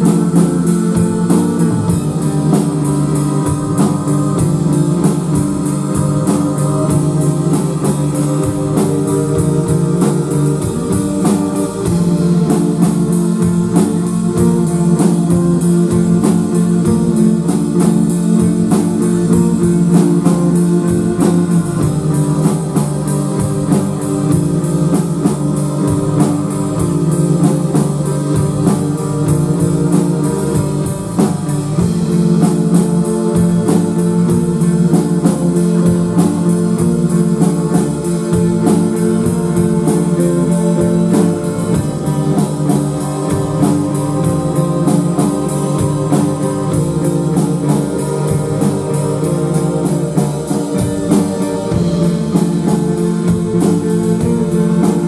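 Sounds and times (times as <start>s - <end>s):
drum kit beat: 0.0s - 55.0s
electric guitar: 0.0s - 55.0s
keyboard notes: 0.0s - 55.0s.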